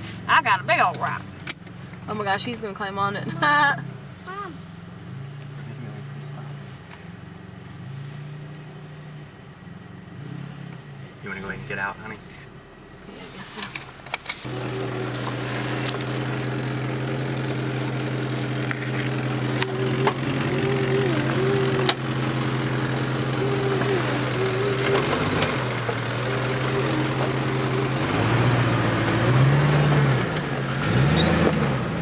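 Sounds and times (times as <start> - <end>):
engine and drivetrain whine: 0.0 - 32.0.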